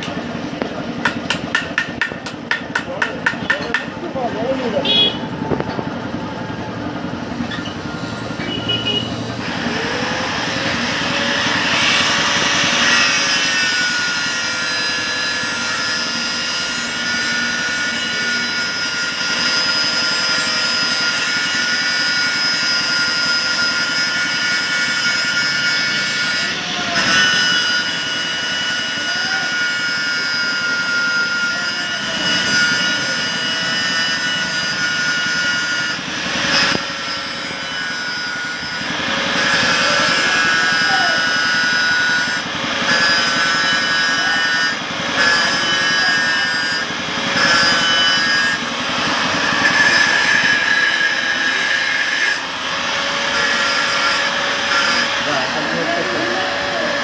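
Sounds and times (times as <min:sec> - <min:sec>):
angle grinder grinding metal: 0:06.9 - 0:57.0.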